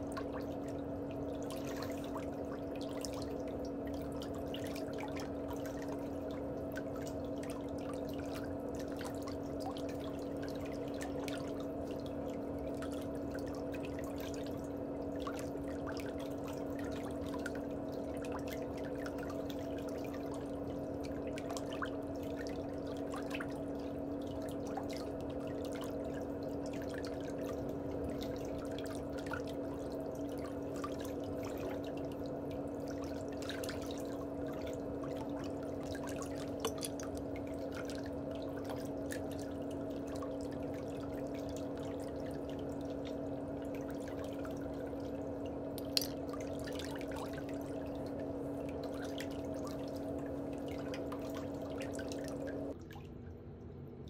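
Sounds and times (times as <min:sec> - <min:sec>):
trickling water: 0:00.0 - 0:53.2
low steady hum: 0:00.0 - 0:54.0.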